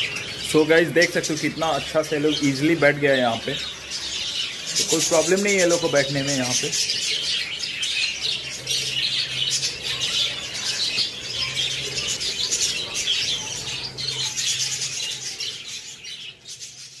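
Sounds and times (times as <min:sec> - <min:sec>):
budgerigars chattering and chirping: 0:00.0 - 0:17.0.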